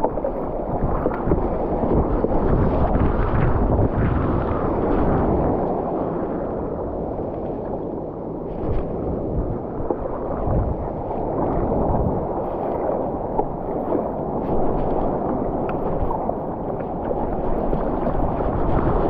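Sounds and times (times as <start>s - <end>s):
water rushing and splashing: 0.0s - 19.0s
wind buffeting microphone: 0.0s - 19.0s.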